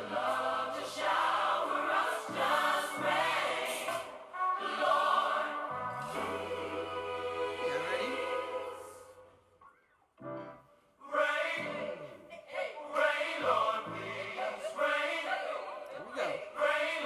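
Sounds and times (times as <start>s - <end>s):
choir singing gospel music: 0.0s - 9.4s, 11.0s - 17.0s.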